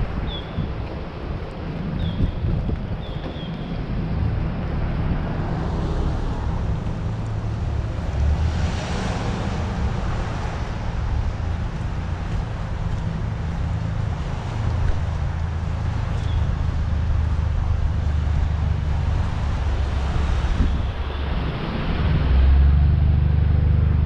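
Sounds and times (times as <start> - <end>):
low street rumble: 0.0 - 24.0
wind on microphone: 0.0 - 24.0
vehicle passing: 3.8 - 24.0.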